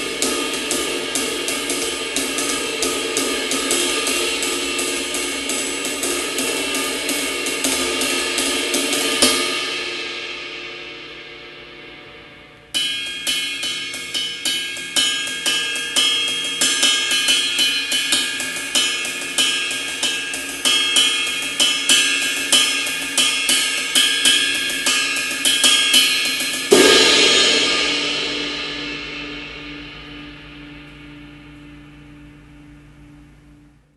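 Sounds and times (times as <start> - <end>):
ride cymbal rhythmic groove: 0.0 - 10.2, 12.6 - 33.2.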